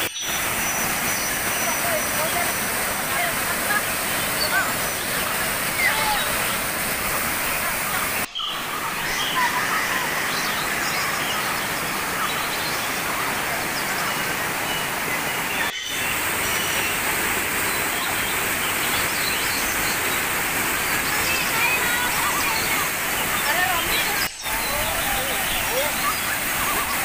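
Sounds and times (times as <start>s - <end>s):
waterfall splashing over rocks: 0.0s - 27.0s.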